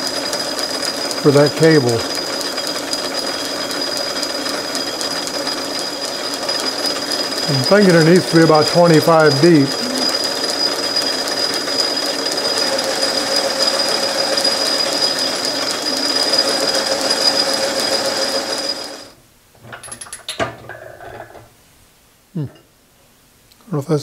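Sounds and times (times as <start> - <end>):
metal lathe hum and whine: 0.0 - 21.4.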